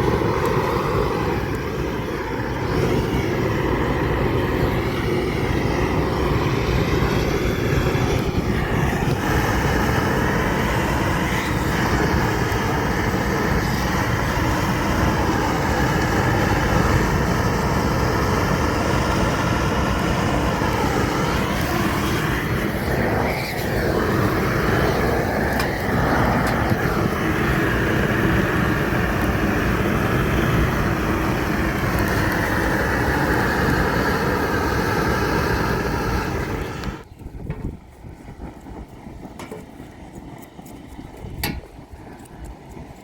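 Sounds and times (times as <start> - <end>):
vehicle engine running: 0.0 - 37.1
dense rushing noise: 0.0 - 39.5.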